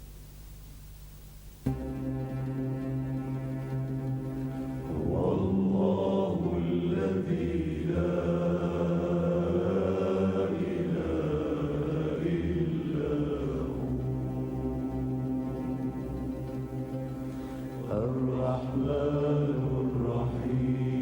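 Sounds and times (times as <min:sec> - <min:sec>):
person chanting long notes: 0:01.7 - 0:21.0
steady low drone: 0:01.7 - 0:21.0.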